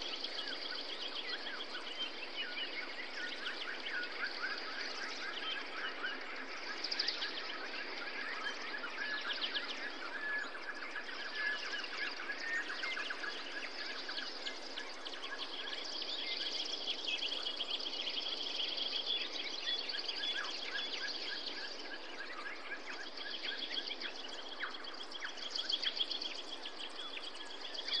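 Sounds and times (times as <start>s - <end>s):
small birds chirping and trilling: 0.0s - 28.0s
steady background hiss: 0.0s - 28.0s.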